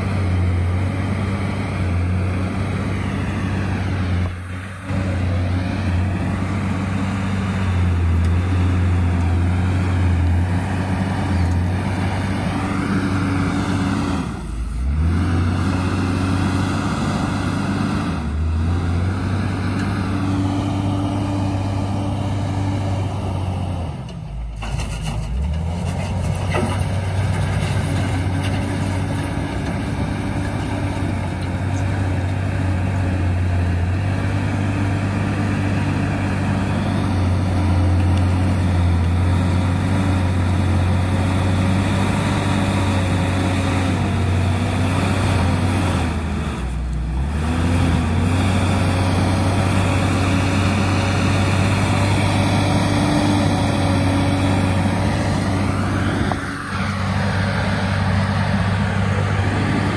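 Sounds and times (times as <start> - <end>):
wheel loader diesel engine: 0.0 - 59.9.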